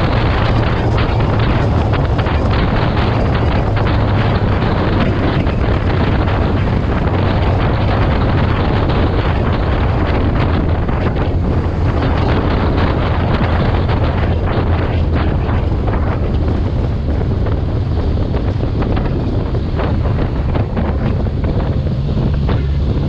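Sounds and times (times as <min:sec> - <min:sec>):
low vehicle drone: 0:00.0 - 0:23.0
wind buffeting microphone: 0:00.0 - 0:23.0.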